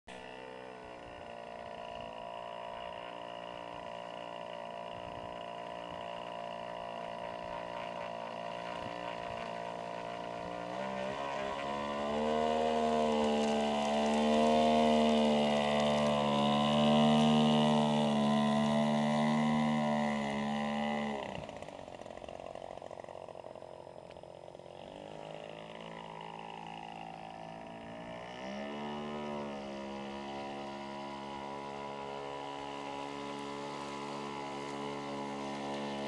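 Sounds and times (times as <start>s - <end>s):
model plane engine buzzing: 0.1s - 36.0s.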